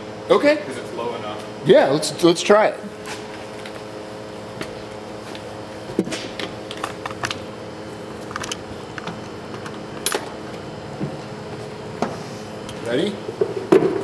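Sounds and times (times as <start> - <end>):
pump system hum: 0.0 - 14.0.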